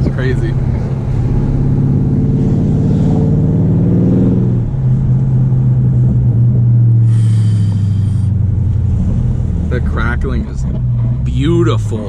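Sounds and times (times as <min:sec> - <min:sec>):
car exhaust droning: 0:00.0 - 0:12.0.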